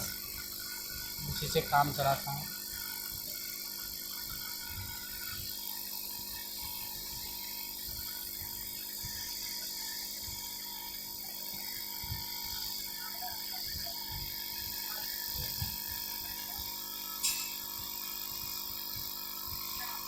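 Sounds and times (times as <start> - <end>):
hot air blower hissing: 0.0 - 20.0.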